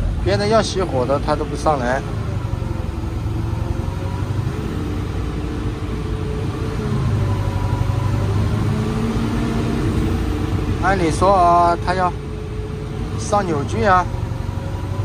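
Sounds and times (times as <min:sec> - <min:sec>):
excavator diesel engine lugging: 0:00.0 - 0:15.0.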